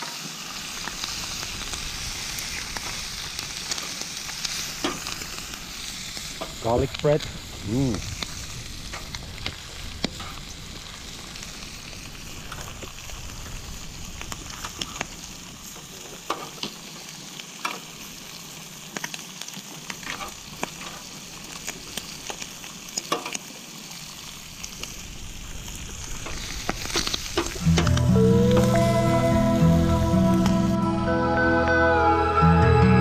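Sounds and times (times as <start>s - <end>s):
food sizzling on hotplate: 0.0s - 30.8s.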